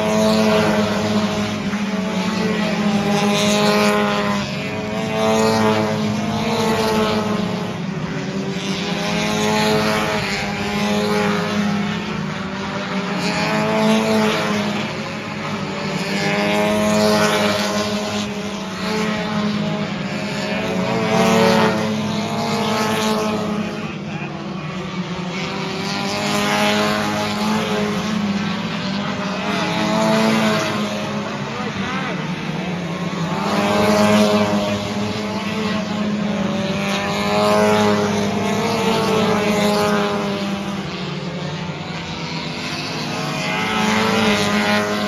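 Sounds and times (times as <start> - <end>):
race car engines passing: 0.0 - 45.0.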